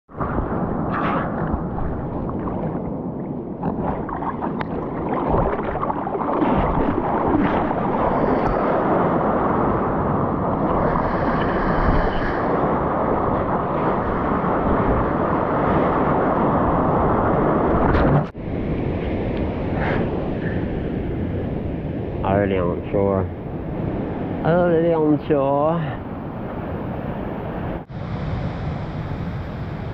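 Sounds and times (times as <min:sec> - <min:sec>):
wind buffeting microphone: 0:00.1 - 0:25.3.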